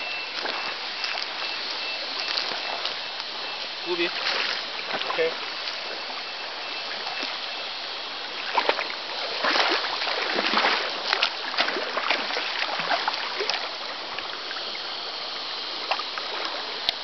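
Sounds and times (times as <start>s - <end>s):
fish splashing in shallow water: 0.0s - 17.0s
steady hiss of water: 0.0s - 17.0s.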